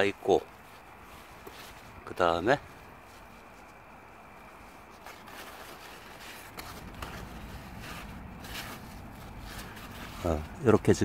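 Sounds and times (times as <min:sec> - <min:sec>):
leaves and vines rustling: 0:00.0 - 0:11.0.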